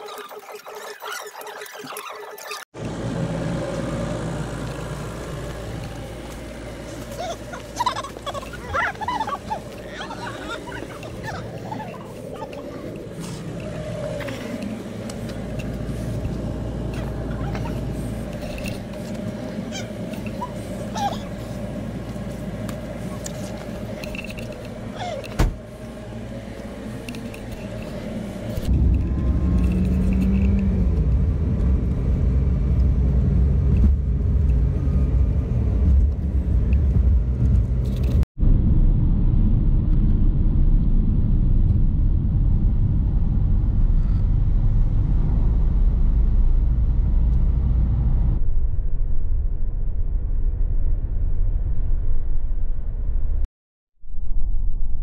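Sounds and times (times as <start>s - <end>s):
van engine and tyre rumble: 2.7s - 53.4s.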